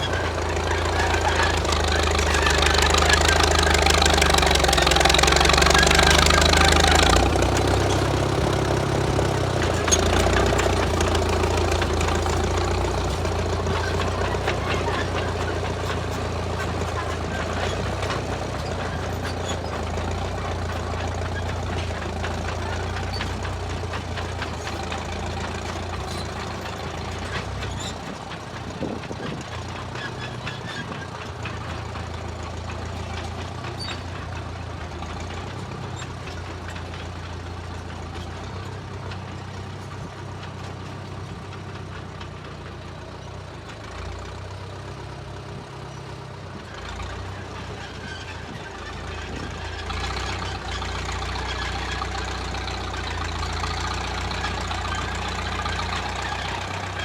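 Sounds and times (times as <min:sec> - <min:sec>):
rattling and clanking: 0:00.0 - 0:44.5, 0:46.6 - 0:57.0
bulldozer engine running under load: 0:00.0 - 0:57.0.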